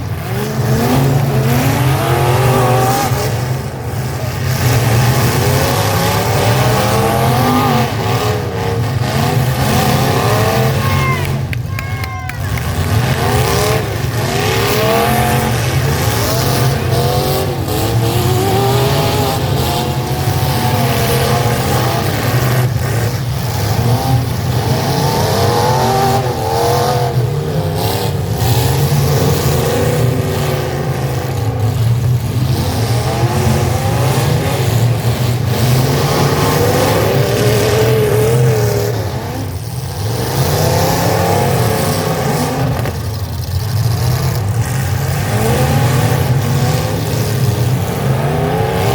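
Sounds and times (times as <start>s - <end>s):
pickup truck engines revving: 0.0s - 48.9s.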